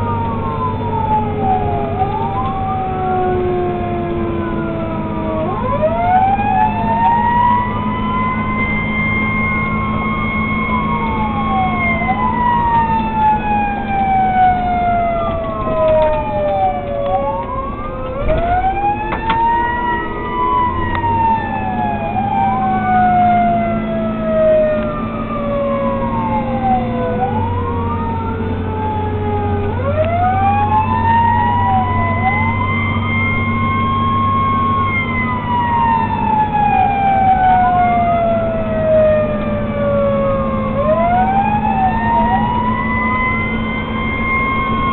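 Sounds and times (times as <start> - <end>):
diesel engine droning: 0.0 - 44.9
fire engine sirens wailing: 0.0 - 44.9.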